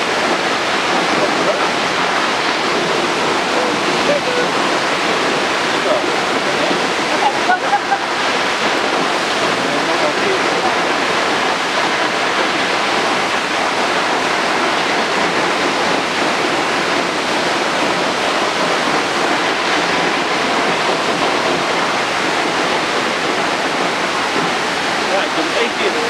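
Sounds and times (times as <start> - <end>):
waterfall rushing onto rocks: 0.0 - 26.0.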